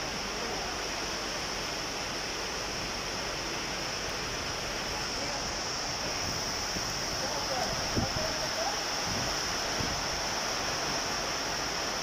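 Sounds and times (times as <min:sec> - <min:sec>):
heavy rain on concrete: 0:00.0 - 0:12.0.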